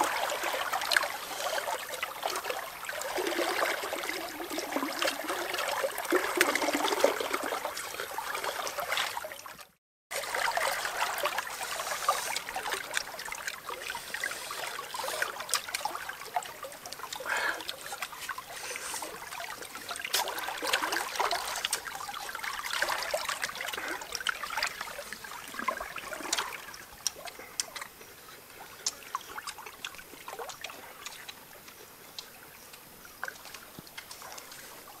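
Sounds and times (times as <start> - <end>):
stream water trickling: 0.0 - 35.0.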